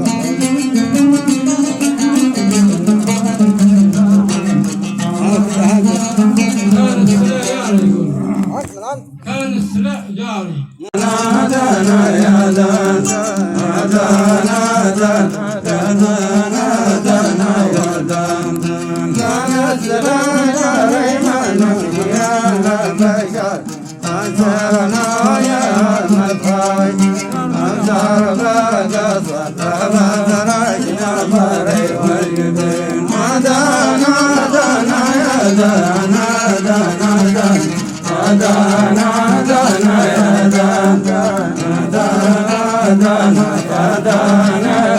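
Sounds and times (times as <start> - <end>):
men singing ornamented melody: 0.0 - 44.9.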